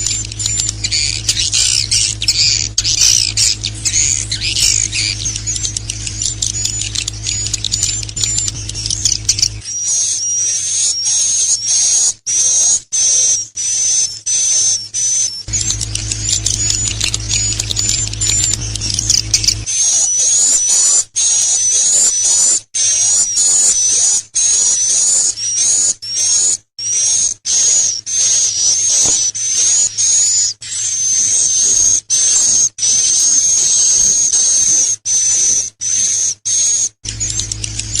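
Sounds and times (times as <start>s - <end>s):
bird chattering song: 0.0s - 38.0s.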